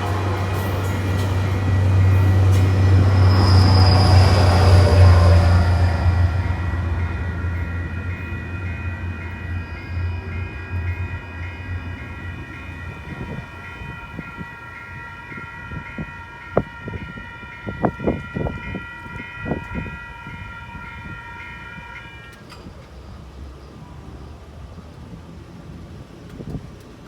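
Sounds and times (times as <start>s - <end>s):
railroad crossing bells ringing: 0.0s - 24.9s
passing train rumble: 0.0s - 27.0s.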